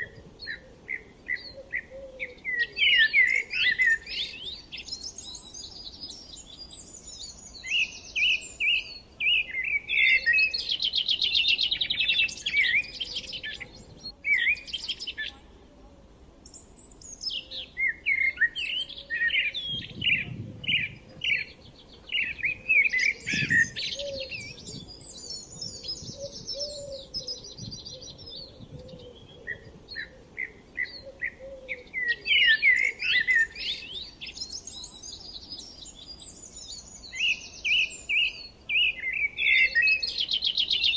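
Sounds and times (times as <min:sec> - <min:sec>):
songbirds chirping and singing: 0:00.0 - 0:15.6, 0:16.4 - 0:40.9.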